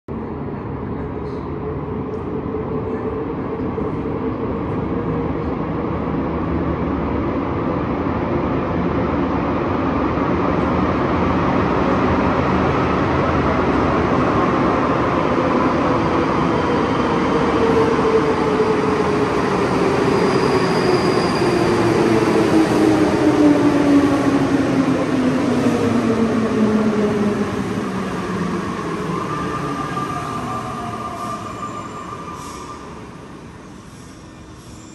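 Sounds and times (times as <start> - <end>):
subway train rumble: 0.1 - 34.9.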